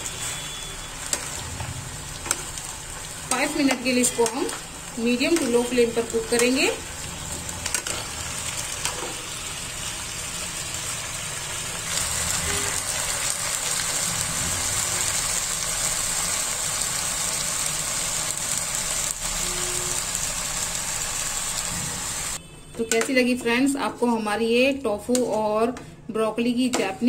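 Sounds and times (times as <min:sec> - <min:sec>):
food sizzling in a pan: 0:00.0 - 0:22.4.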